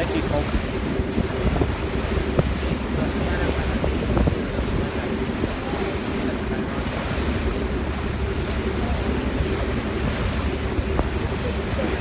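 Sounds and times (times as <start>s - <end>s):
rushing water against hull: 0.0s - 12.0s
wind buffeting microphone: 0.0s - 12.0s.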